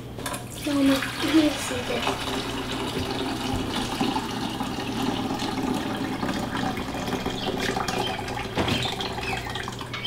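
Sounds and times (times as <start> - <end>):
juice pouring into sink: 0.5 - 10.0.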